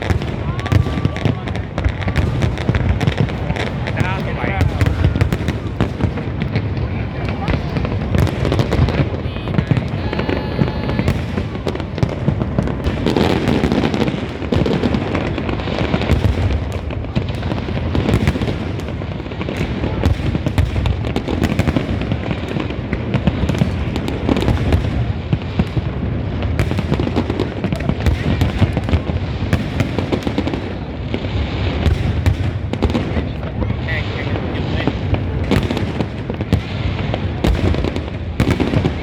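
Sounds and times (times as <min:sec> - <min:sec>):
fireworks bangs and crackling: 0:00.0 - 0:39.0.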